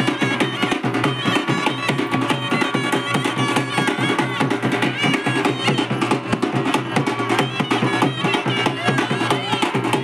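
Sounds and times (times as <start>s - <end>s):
fast drumming: 0.0s - 10.0s.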